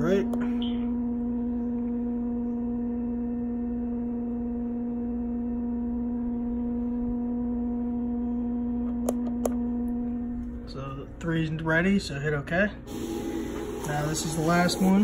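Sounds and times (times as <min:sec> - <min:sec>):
electrical hum of vinyl cutter: 0:00.0 - 0:15.0.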